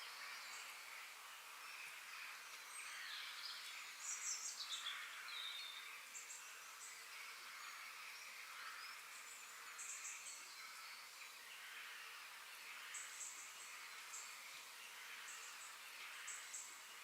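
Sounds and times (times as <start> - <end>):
steady forest hiss: 0.0 - 17.0.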